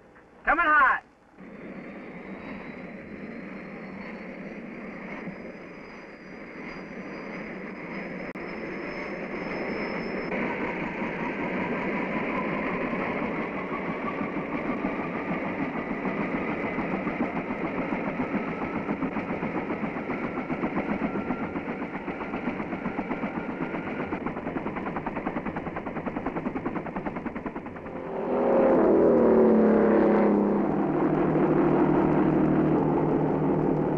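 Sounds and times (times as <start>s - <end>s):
helicopter rotor beat: 0.4s - 33.9s
turbine engine running: 1.4s - 33.9s.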